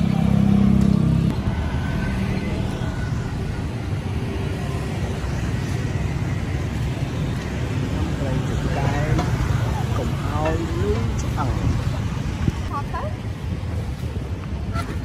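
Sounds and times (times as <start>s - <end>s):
low traffic rumble: 0.0s - 15.0s
vehicle engine hum: 0.0s - 15.0s.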